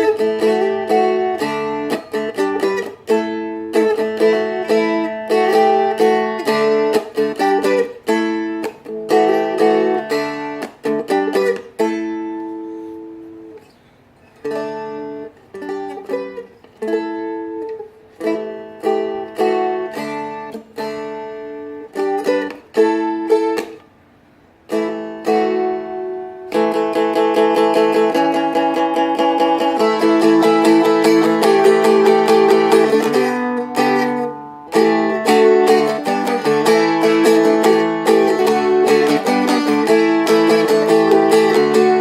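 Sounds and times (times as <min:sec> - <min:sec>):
dulcimer plucked and strummed: 0:00.0 - 0:13.8, 0:14.4 - 0:23.9, 0:24.7 - 0:42.0.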